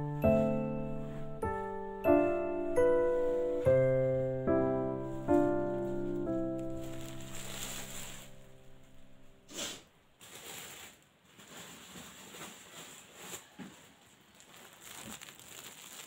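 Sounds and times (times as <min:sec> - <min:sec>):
plastic laundry bags rustling: 0:02.8 - 0:16.0.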